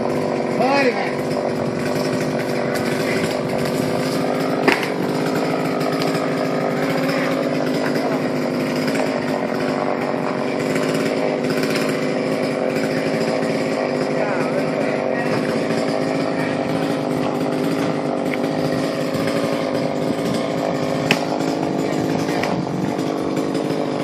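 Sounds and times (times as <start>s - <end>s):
chainsaw engine running: 0.0s - 24.0s.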